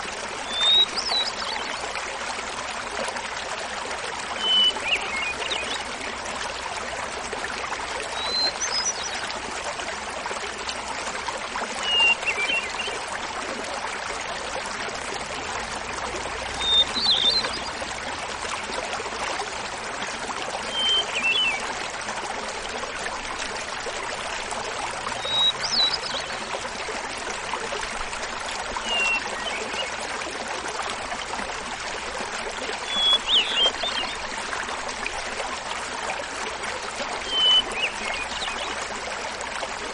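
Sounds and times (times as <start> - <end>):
small waterfall babbling: 0.0 - 39.9.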